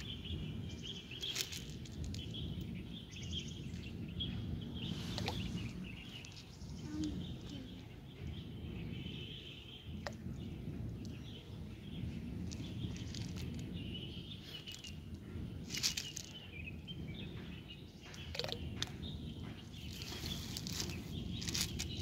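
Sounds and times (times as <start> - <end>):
low rumble: 0.0 - 9.2, 9.9 - 22.0
faint bird chirps: 0.0 - 22.0.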